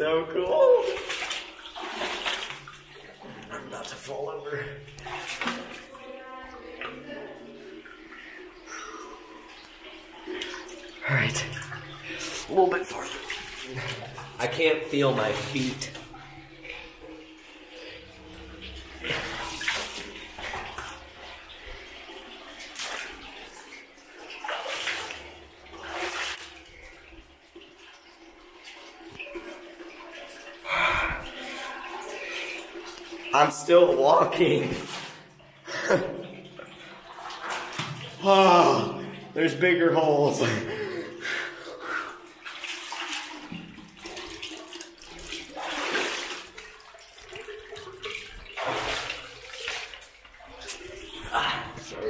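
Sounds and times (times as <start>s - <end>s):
wash of water: 0.3s - 52.0s
feet sloshing through water: 0.7s - 39.6s, 40.4s - 52.0s.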